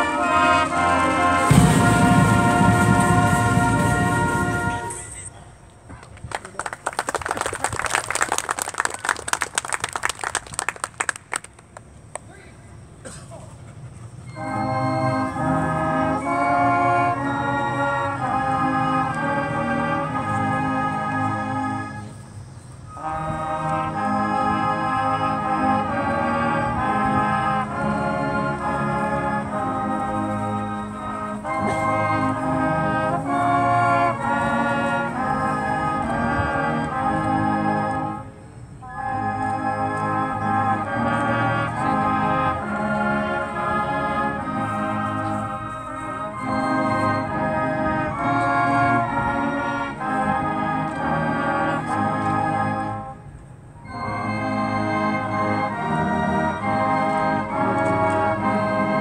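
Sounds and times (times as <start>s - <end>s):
marching band brass chords: 0.0s - 5.5s, 12.9s - 59.0s.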